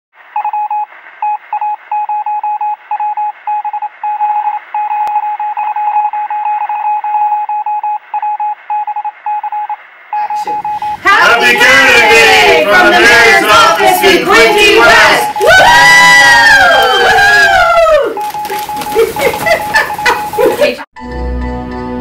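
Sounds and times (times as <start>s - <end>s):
morse code beeps: 0.4s - 15.4s, 18.1s - 20.7s.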